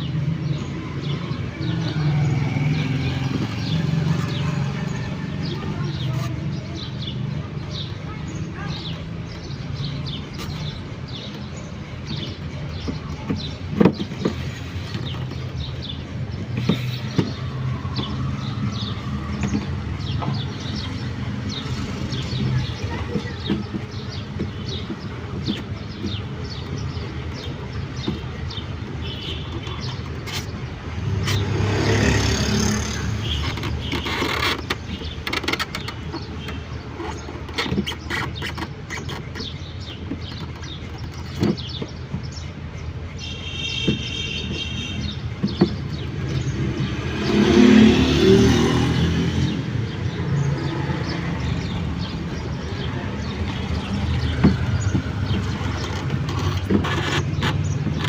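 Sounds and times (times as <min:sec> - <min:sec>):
street traffic: 0:00.0 - 0:58.0
vehicles passing by: 0:00.0 - 0:58.0.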